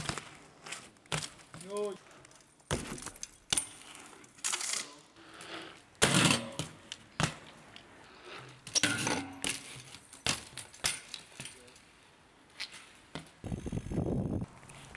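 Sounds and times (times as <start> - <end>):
bike clanking on concrete: 0.0 - 7.8, 8.4 - 13.4
bike scraping concrete: 0.0 - 14.9.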